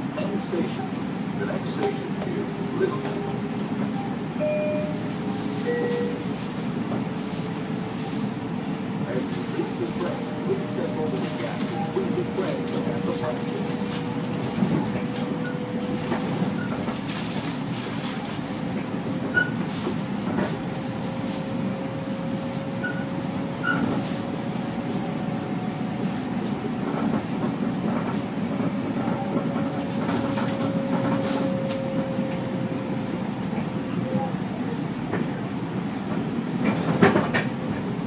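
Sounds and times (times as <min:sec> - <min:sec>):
train car rumble: 0:00.0 - 0:38.0.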